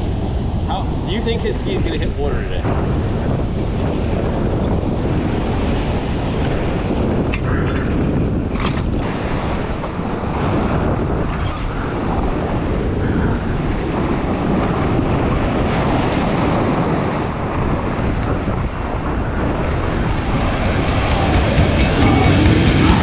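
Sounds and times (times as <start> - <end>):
surf washing in: 0.0 - 23.0
wind buffeting microphone: 0.0 - 23.0.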